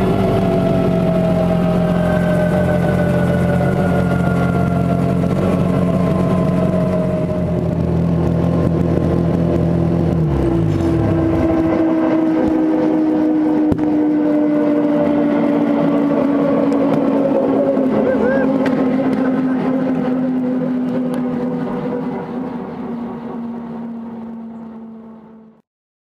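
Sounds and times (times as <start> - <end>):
helicopter engine running: 0.0 - 25.6
steady falling whine: 0.0 - 25.6.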